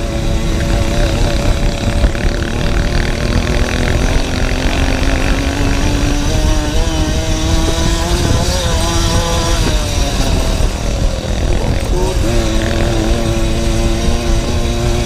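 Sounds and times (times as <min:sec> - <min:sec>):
dirt bike engine running: 0:00.0 - 0:15.0
wind rumble on microphone: 0:00.0 - 0:15.0.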